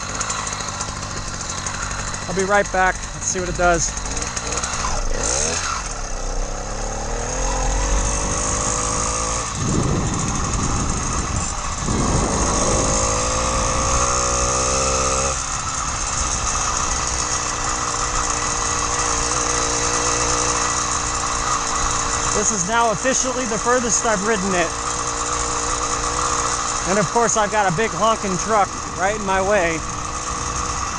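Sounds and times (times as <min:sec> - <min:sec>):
two-stroke engine accelerating: 0:00.0 - 0:30.9.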